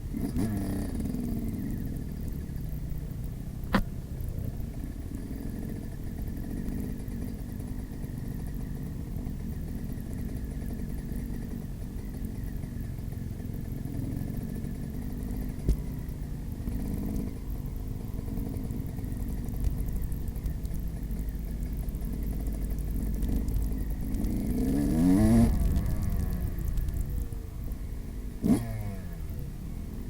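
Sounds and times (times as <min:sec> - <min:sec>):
motocross bike engine running: 0:00.0 - 0:30.0.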